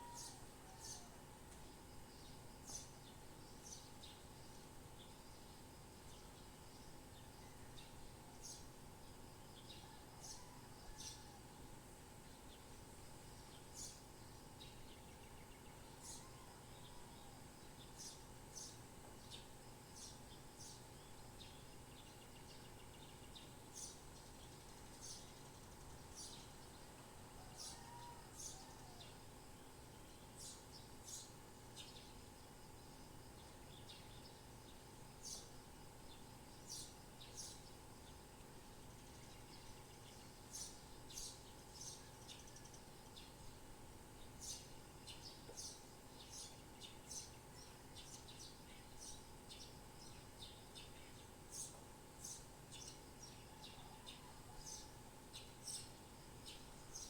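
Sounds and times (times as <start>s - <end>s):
faint birds chirping: 0.0s - 57.0s
low background hum: 0.0s - 57.0s.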